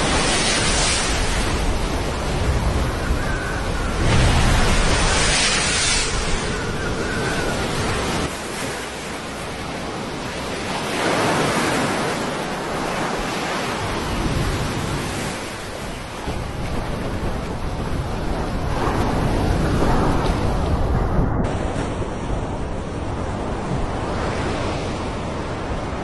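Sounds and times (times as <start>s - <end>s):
waves breaking: 0.0s - 26.0s
wind on microphone: 0.0s - 26.0s.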